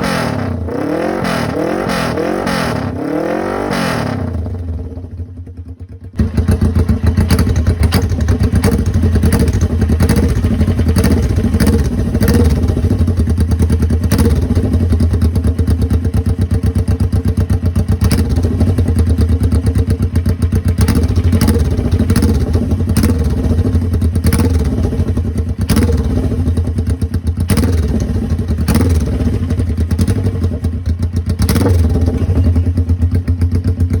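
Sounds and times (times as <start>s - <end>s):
loud motorcycle engine running: 0.0s - 34.0s.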